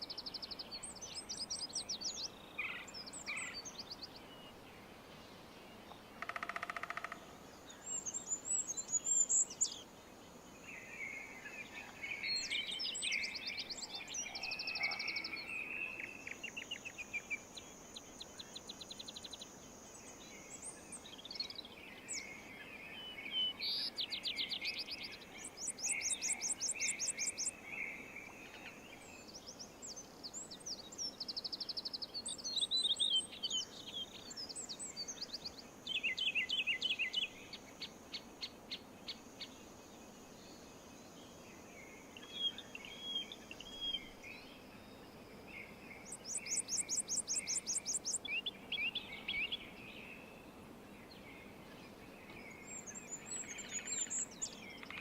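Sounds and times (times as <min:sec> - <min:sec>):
faint outdoor hiss: 0:00.0 - 0:55.0
songbirds singing: 0:00.0 - 0:55.0.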